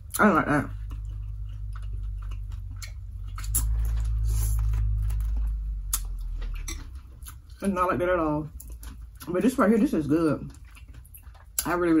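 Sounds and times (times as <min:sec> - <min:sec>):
steady low hum: 0:00.0 - 0:12.0
wet chewing and smacking: 0:00.0 - 0:12.0.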